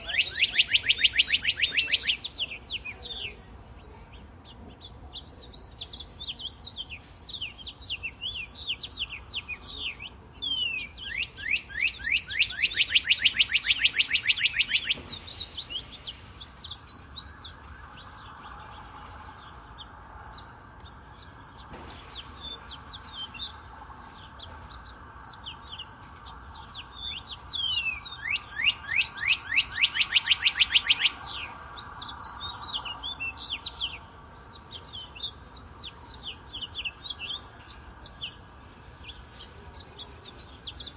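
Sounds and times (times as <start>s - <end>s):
bird trill of downward notes: 0.0s - 3.4s, 5.4s - 40.9s
songbirds chirping: 0.0s - 40.9s.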